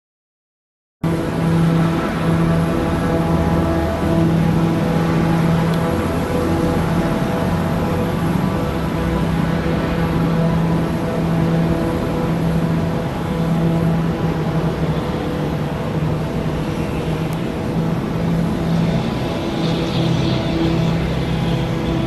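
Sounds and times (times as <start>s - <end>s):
aircraft engines droning: 1.0s - 22.0s.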